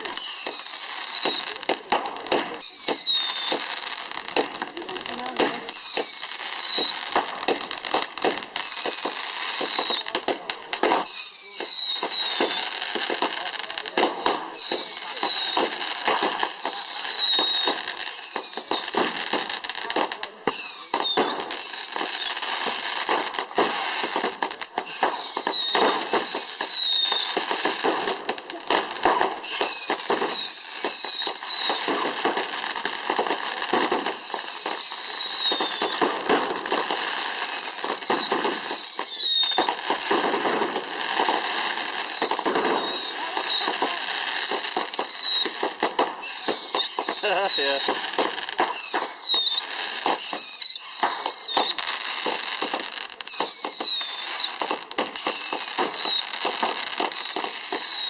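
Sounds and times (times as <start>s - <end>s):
falling firework whistles: 0.0s - 10.2s, 10.8s - 19.8s, 20.4s - 58.0s
fireworks crackling: 0.0s - 58.0s.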